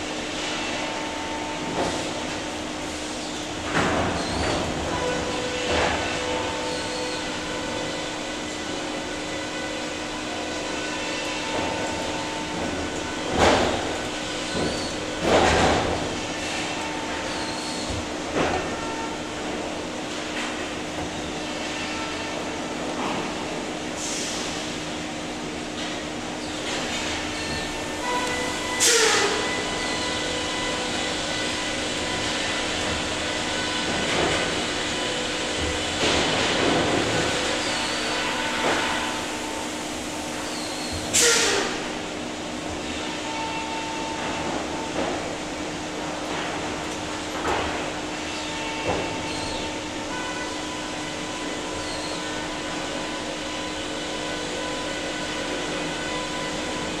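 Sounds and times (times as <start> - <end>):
electric motors humming: 0.0 - 57.0
roller conveyors humming: 0.0 - 57.0
sawmill machinery din: 0.0 - 57.0.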